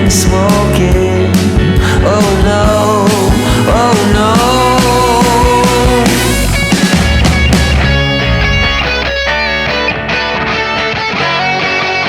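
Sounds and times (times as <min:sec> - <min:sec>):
instrumental rock guitar music: 0:00.0 - 0:12.0.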